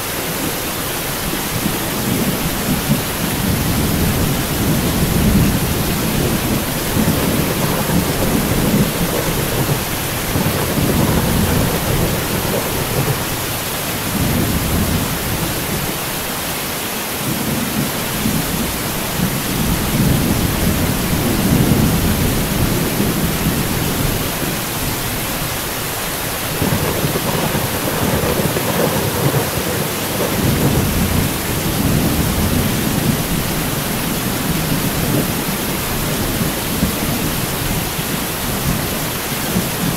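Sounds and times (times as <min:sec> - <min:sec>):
heavy rain hissing: 0:00.0 - 0:39.9
thunder rolling: 0:01.5 - 0:16.0, 0:17.3 - 0:24.4, 0:26.4 - 0:39.9.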